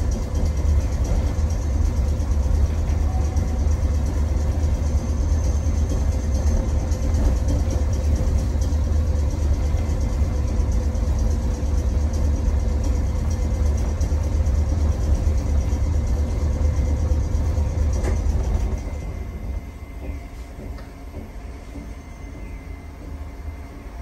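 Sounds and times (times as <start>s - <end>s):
faint machinery whine: 0.0s - 24.0s
tram machinery humming: 0.0s - 24.0s.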